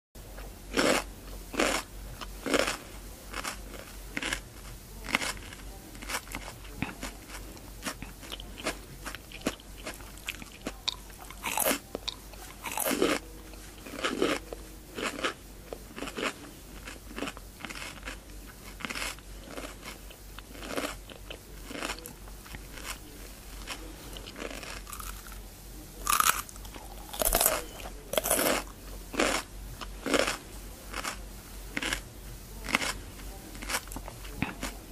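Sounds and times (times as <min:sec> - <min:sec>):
person chewing crisp cucumber: 0:00.7 - 0:25.4, 0:26.0 - 0:32.0, 0:32.6 - 0:34.9.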